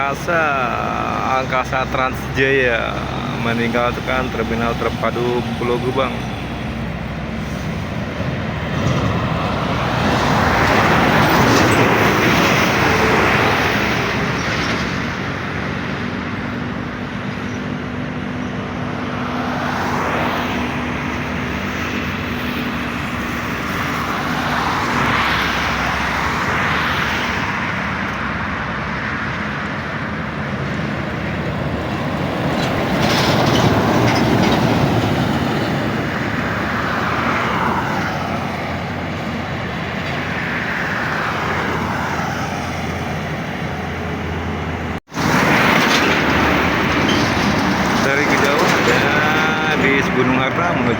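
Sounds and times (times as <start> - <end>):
large vehicles passing: 0.0 - 50.9.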